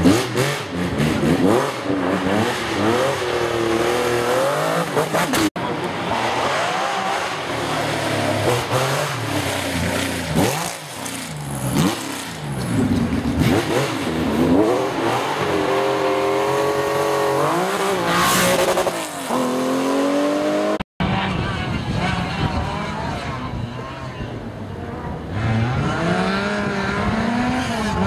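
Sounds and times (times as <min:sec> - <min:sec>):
rally car engines revving: 0:00.0 - 0:28.0.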